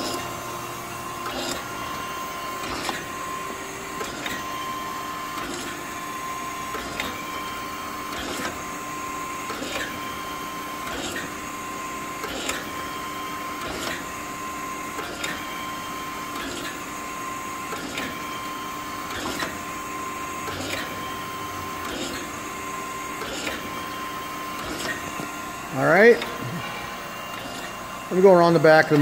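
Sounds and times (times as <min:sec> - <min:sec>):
machine whine: 0:00.0 - 0:29.0.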